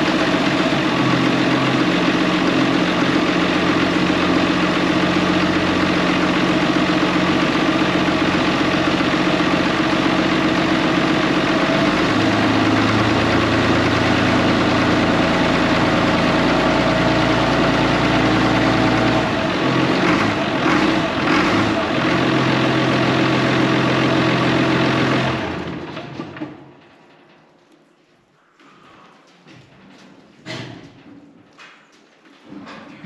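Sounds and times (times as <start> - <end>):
tractor engine idling: 0.0 - 27.3.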